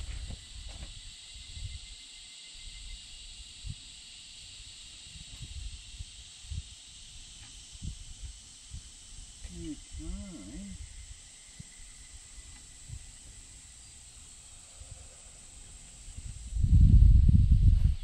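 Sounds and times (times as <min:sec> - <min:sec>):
high-pitched insect hiss: 0:00.0 - 0:18.0.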